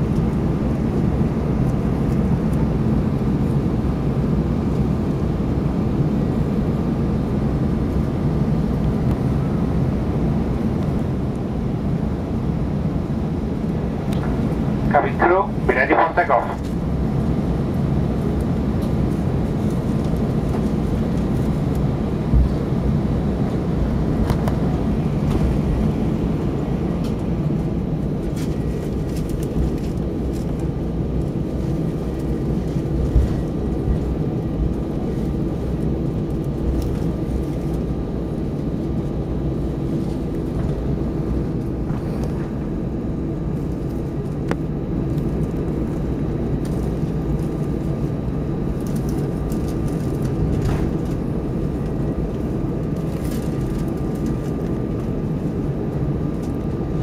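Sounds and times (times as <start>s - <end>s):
faint steady whine: 0.0s - 57.0s
jet engines idling rumble: 0.0s - 57.0s.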